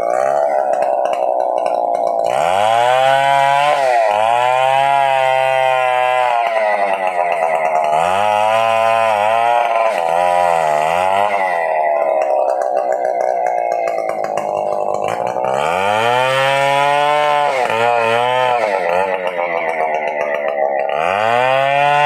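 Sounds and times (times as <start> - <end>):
chainsaw running at high revs: 0.0 - 22.0.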